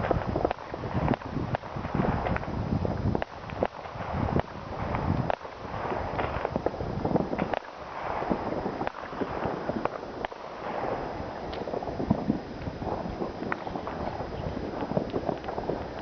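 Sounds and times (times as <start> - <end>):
fireworks bangs and pops: 0.0 - 16.0
firecrackers crackling: 3.2 - 16.0.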